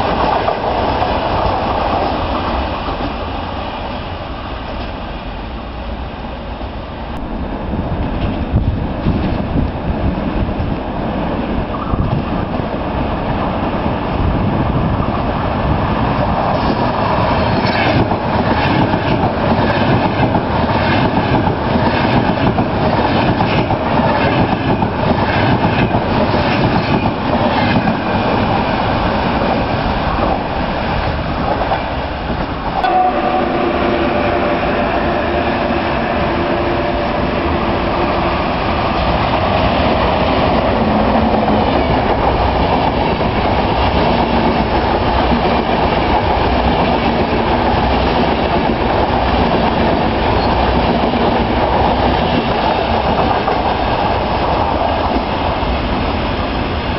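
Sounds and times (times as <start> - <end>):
high-speed train passing: 0.0 - 56.9
train rumble and wheel clatter: 0.0 - 56.9.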